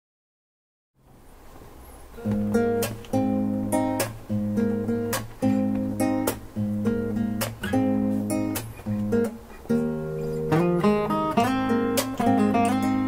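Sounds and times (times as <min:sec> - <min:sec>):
two acoustic guitars playing: 0:02.1 - 0:13.0.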